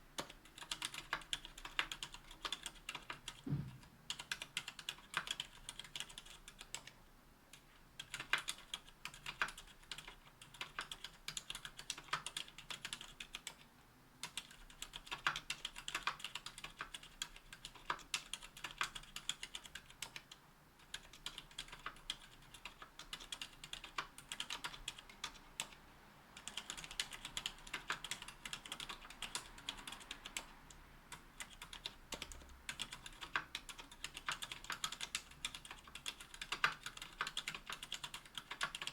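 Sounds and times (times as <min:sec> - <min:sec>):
typing on mechanical keyboard: 0:00.2 - 0:03.5, 0:04.1 - 0:07.0, 0:08.0 - 0:13.6, 0:14.2 - 0:25.8, 0:26.4 - 0:30.5, 0:31.1 - 0:38.9.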